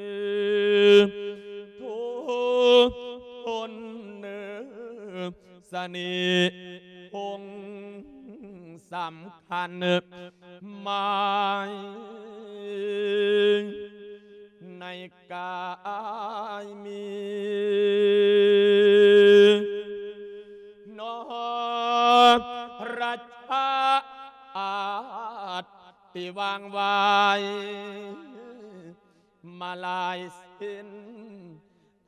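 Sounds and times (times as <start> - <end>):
monk chanting: 0.0 - 31.6.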